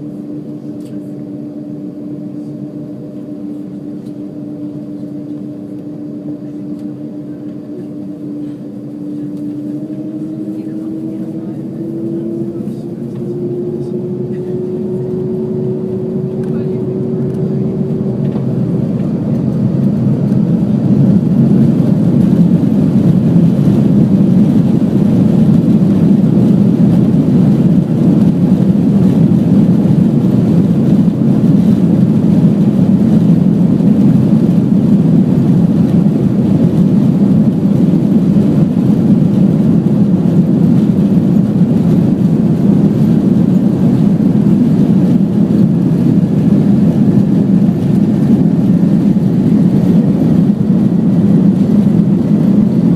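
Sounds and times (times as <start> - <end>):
airflow noise: 0.0 - 52.9
jet engines rumbling in cabin: 0.0 - 52.9.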